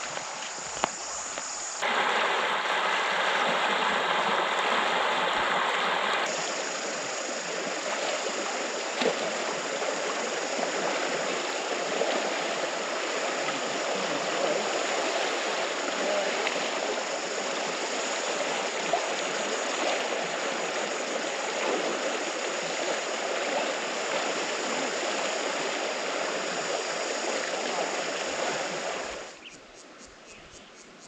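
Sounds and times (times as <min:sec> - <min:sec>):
river water rushing: 0:00.0 - 0:29.4.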